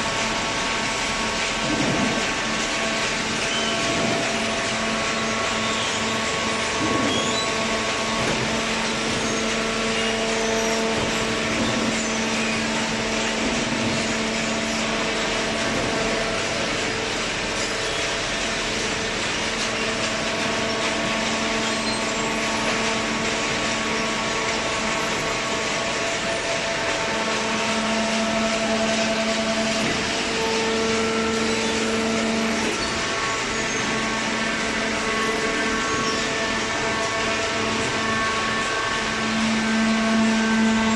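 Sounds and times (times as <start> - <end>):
hydraulic machine droning: 0.0 - 40.9.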